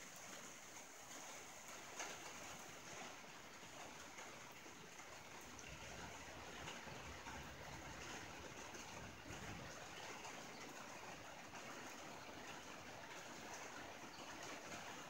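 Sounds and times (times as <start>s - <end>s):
rain on a tin roof: 0.0s - 15.0s.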